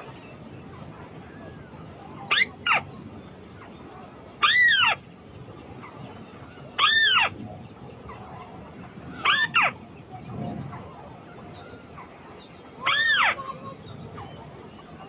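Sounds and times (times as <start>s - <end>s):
crake calling: 0.0s - 10.0s, 10.7s - 15.0s.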